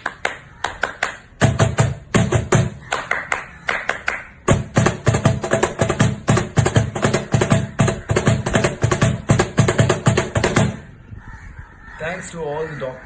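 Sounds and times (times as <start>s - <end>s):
rhythmic claps and taps: 0.0s - 10.8s.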